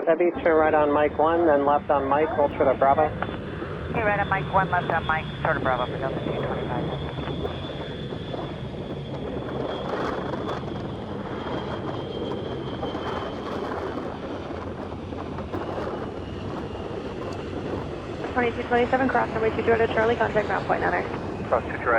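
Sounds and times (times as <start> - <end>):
jet airliner engines running: 0.0 - 21.9.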